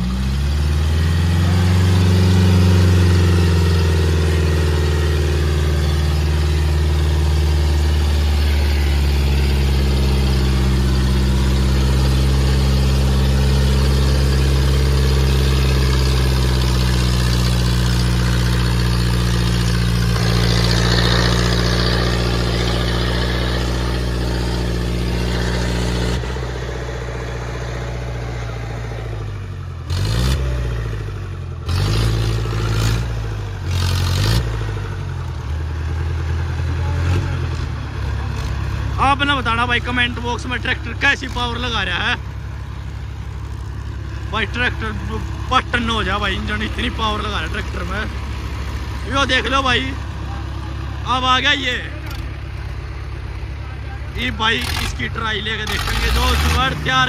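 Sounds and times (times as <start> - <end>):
tractor engine labouring: 0.0 - 57.0.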